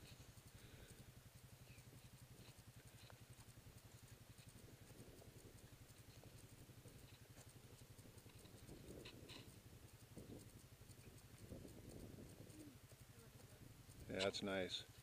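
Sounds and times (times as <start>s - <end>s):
faint low hum: 0.0s - 15.0s
soft ticks: 0.0s - 15.0s.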